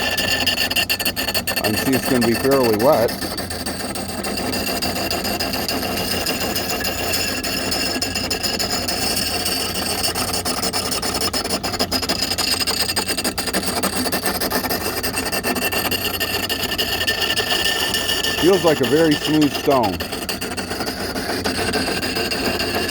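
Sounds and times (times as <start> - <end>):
axe scraping on grinding wheel: 0.0 - 22.9.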